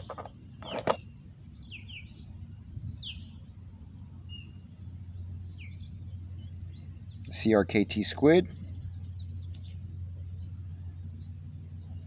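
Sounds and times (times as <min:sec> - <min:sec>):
birds chirping: 0:00.0 - 0:12.0
steady low background hum: 0:00.0 - 0:12.0.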